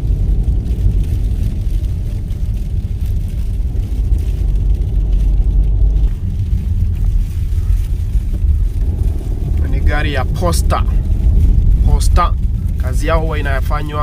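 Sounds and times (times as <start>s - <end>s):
car driving heard from inside: 0.0s - 14.0s.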